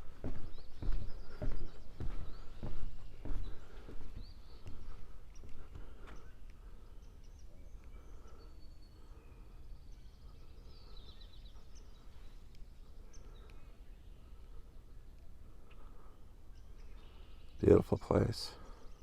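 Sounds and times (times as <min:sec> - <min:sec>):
birds chirping faintly: 0:00.0 - 0:19.0.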